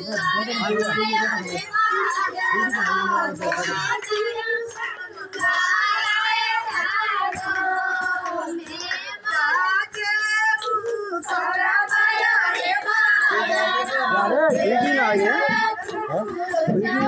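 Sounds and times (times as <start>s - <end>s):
high-pitched singing over music: 0.0s - 17.0s.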